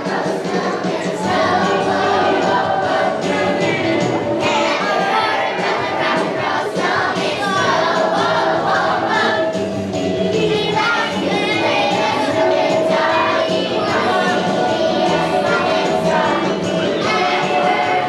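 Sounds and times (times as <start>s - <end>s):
children's choir singing: 0.0s - 18.0s
instrumental accompaniment with beat: 0.0s - 18.0s.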